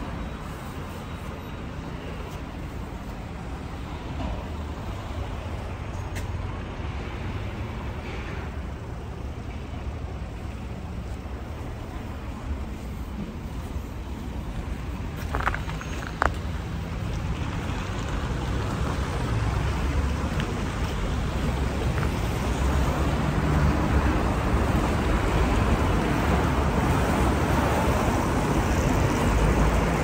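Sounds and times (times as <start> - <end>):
passing cars rumble: 3.6 - 30.0.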